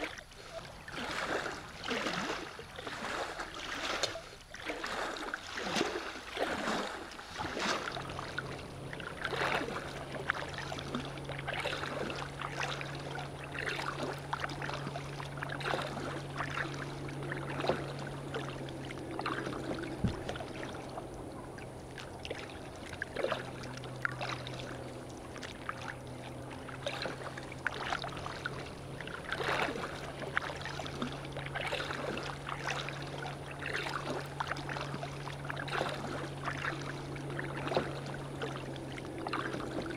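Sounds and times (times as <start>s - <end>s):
paddle splashing water: 0.0s - 39.9s
steady low hum: 0.1s - 39.9s.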